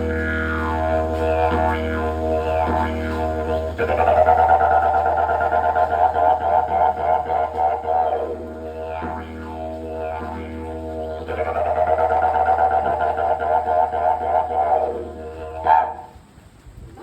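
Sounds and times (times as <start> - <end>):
didgeridoo drone with rippling pulse: 0.0 - 16.2
didgeridoo calls sliding down: 0.0 - 16.4.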